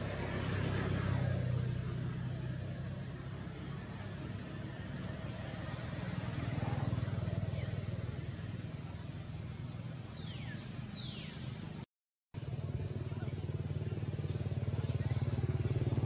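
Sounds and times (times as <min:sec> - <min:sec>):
engine droning: 0:00.0 - 0:11.8, 0:12.4 - 0:16.0.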